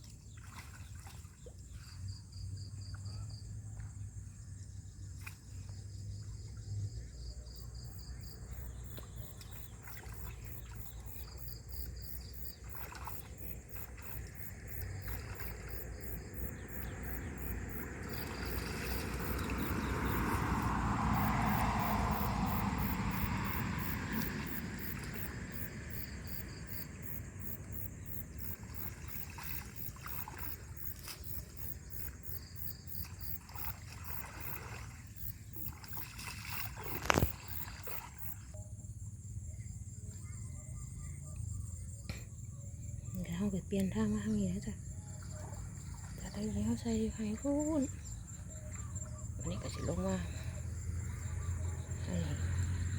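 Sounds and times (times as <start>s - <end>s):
insects chirping: 0.0s - 52.9s.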